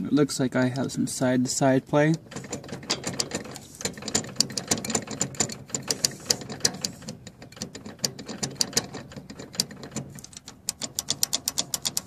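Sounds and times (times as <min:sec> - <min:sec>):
tractor clutch clicking and rattling: 0:01.9 - 0:12.0.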